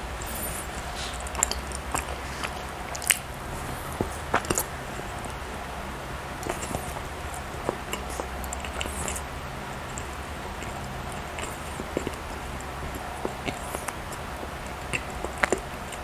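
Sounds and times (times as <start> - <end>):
chewing with wet mouth smacks: 0.0 - 16.0
low steady hum: 0.0 - 16.0.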